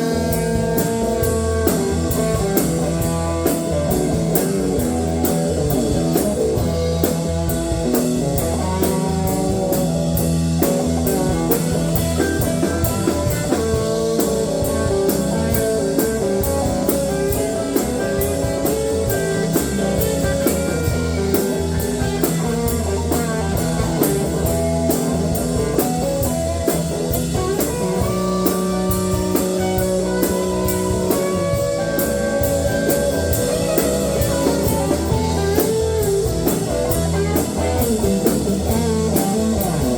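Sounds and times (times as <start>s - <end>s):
drum kit beat: 0.0s - 39.9s
electric guitar playing: 0.0s - 39.9s.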